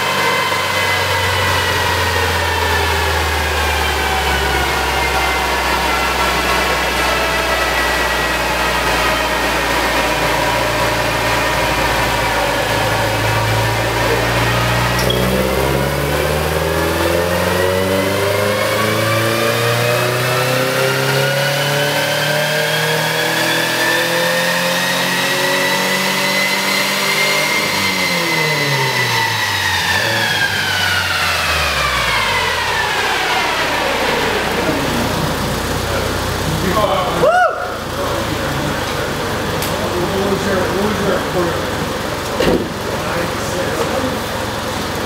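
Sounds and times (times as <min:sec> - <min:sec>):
car engine revving through exhaust: 0:00.0 - 0:45.0.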